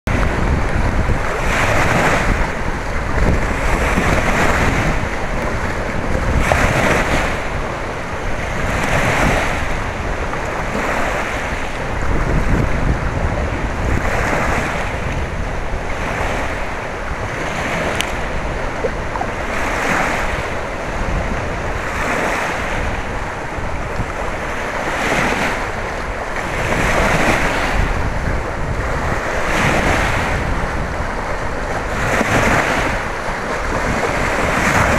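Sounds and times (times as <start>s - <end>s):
waves washing in: 0.1s - 34.9s
wind rumble on microphone: 0.1s - 34.9s.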